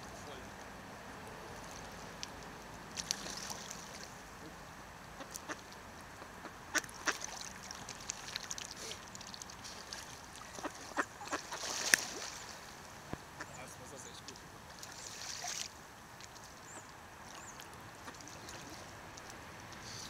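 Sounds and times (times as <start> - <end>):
small clicks and splashes on water: 0.5 - 4.2, 5.2 - 13.2, 14.2 - 20.0
ducks calling softly: 1.2 - 20.0.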